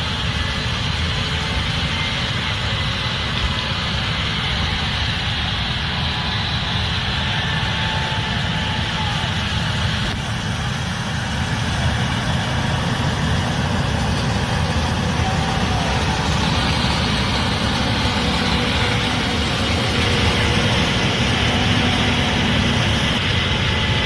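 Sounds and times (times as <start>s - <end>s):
diesel engine rumble: 0.0s - 24.0s.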